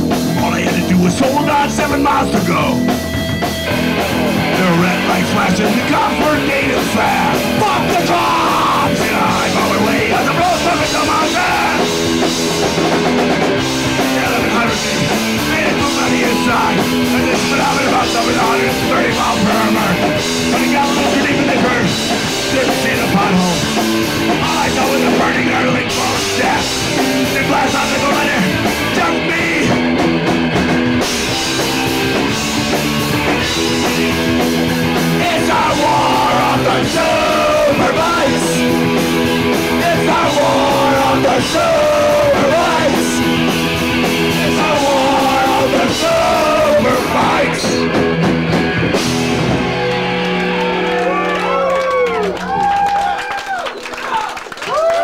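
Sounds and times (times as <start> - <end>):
drum kit: 0.0 - 53.0
electric guitars: 0.0 - 55.0.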